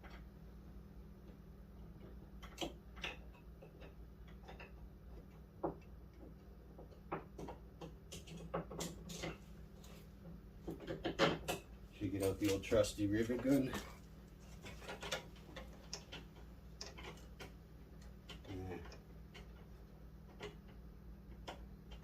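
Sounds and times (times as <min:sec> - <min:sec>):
steady low hum: 0:00.0 - 0:22.0
small metal parts and tools clicking: 0:01.8 - 0:09.5, 0:10.7 - 0:22.0.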